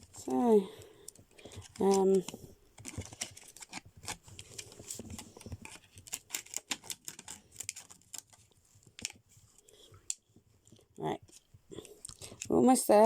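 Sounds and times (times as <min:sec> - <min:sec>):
packaging clicking and crackling: 0:00.0 - 0:12.5.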